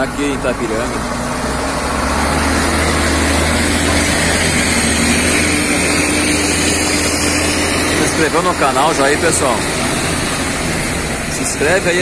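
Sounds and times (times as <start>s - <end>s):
truck diesel engine rumbling: 0.0s - 12.0s.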